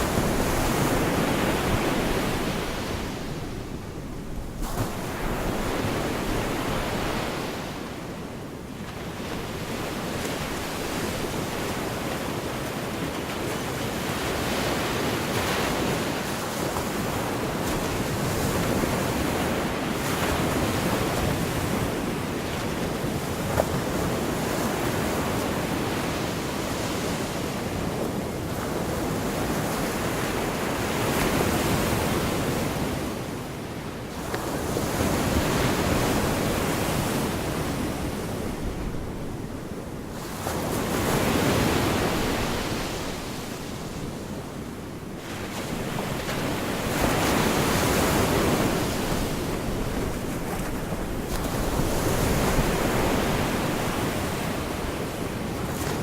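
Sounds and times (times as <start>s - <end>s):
wind on microphone: 0.0s - 33.5s, 34.2s - 56.0s
waves breaking on beach: 0.0s - 56.0s.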